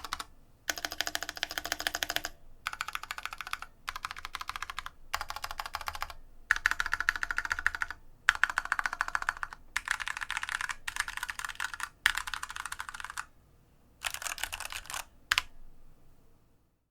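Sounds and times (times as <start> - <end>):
mechanical keyboard keys clattering: 0.0 - 13.3, 14.0 - 15.5.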